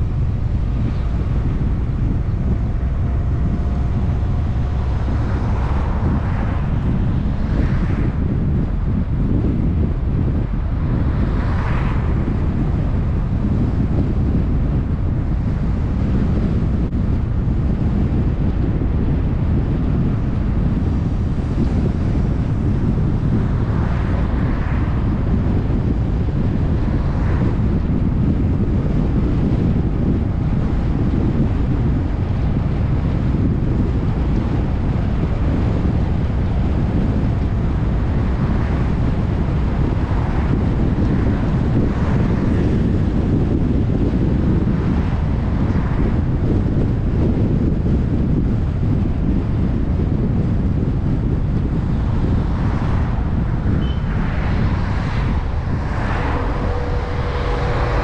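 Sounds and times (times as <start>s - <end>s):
road noise: 0.0s - 58.0s
wind rumbling on microphone: 0.0s - 58.0s.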